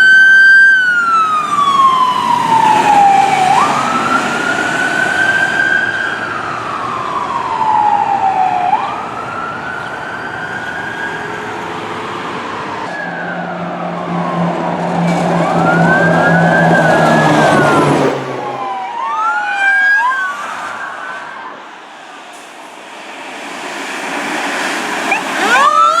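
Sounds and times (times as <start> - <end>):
emergency sirens wailing: 0.0 - 26.0.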